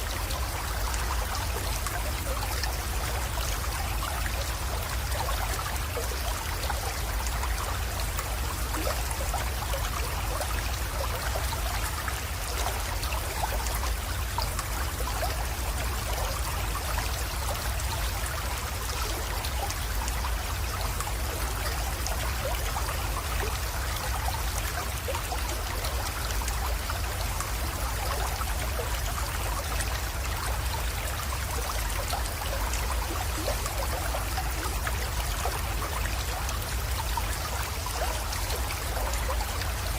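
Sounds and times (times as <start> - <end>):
creek trickling into pond: 0.0 - 39.9.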